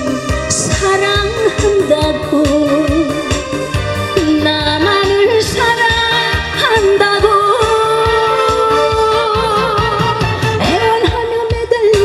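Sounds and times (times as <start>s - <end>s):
backing track with steady beat: 0.0s - 12.0s
woman singing into microphone: 0.0s - 12.0s.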